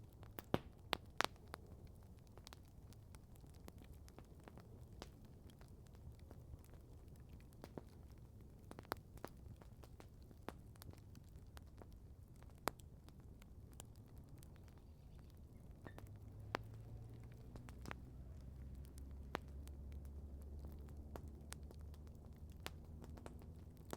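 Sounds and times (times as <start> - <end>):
campfire crackling: 0.0 - 23.9.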